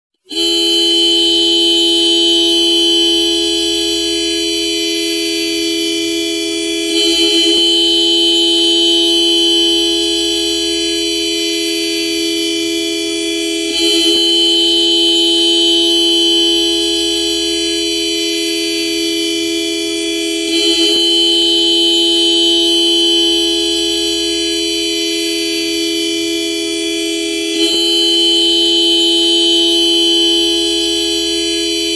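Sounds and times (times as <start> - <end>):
car horn blaring: 0.2 - 31.9.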